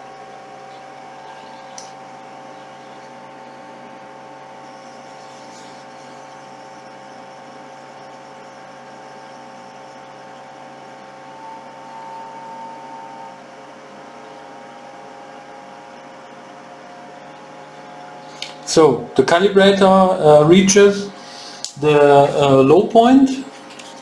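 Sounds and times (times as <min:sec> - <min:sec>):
temperature calibrator hum: 0:00.0 - 0:24.0
whining tones: 0:00.0 - 0:24.0.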